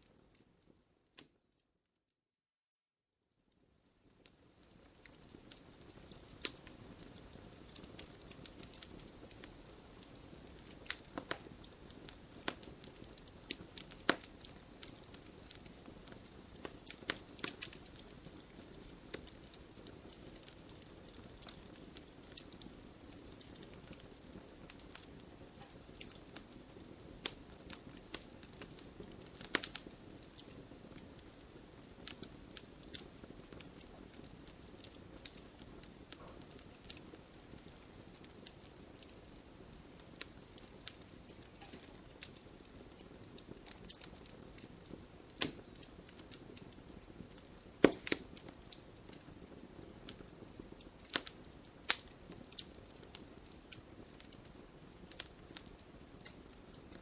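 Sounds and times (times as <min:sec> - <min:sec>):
wood fire crackling: 0:00.0 - 0:01.6, 0:03.6 - 0:57.0.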